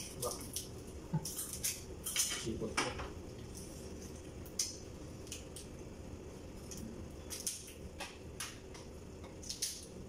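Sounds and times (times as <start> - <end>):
crab shells cracking: 0.0 - 2.5, 3.5 - 5.8, 6.6 - 10.0
steady low hum: 0.0 - 10.0.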